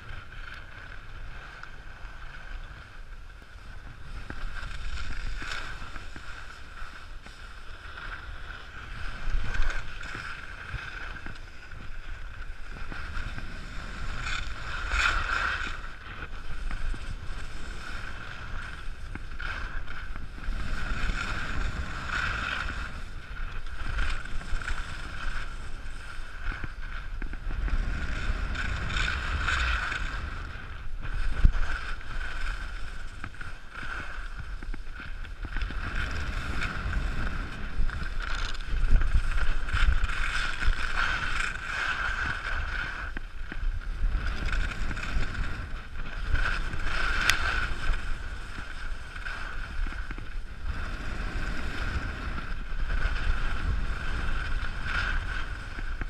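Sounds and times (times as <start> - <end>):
skis scraping over snow: 0.0 - 56.0
wind rumbling on microphone: 0.0 - 56.0.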